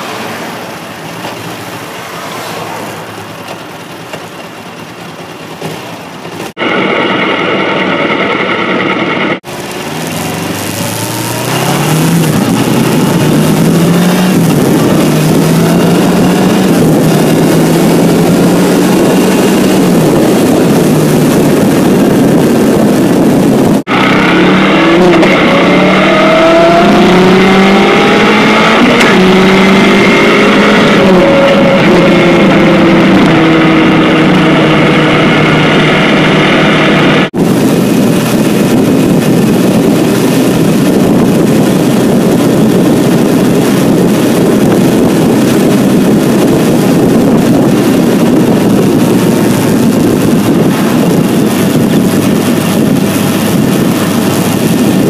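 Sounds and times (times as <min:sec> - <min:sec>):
motorcycle engine shifting gears: 0:00.0 - 0:55.0
wind noise on microphone: 0:03.8 - 0:55.0.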